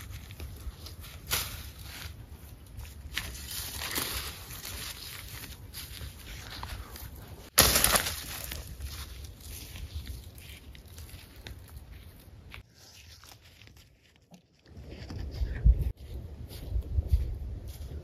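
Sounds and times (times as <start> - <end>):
footsteps through tall grass: 0.0 - 7.2, 7.8 - 18.0.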